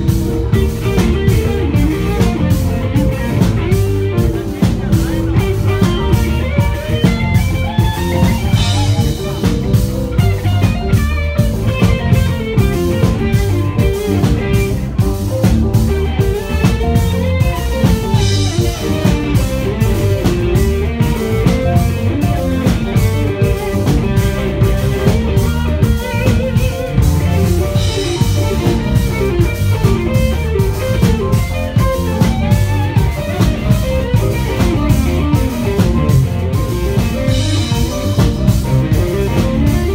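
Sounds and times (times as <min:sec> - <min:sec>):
drum beat: 0:00.0 - 0:39.9
electric guitar: 0:00.0 - 0:39.9
keyboard playing: 0:00.0 - 0:39.9.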